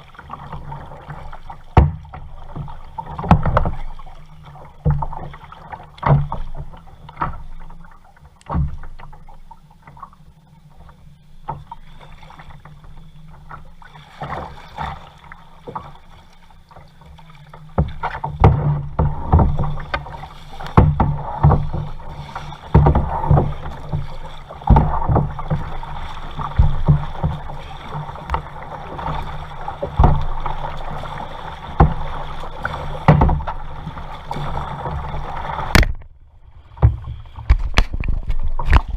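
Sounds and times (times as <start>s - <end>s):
paddle strokes splashing water: 0.0s - 38.9s.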